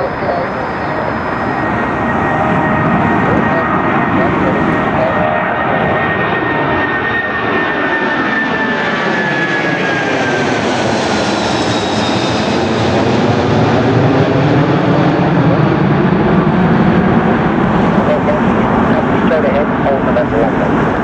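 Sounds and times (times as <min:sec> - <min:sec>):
deep jet rumble: 0:00.0 - 0:21.0
high jet whine: 0:00.0 - 0:21.0
jet engines passing overhead: 0:00.0 - 0:21.0.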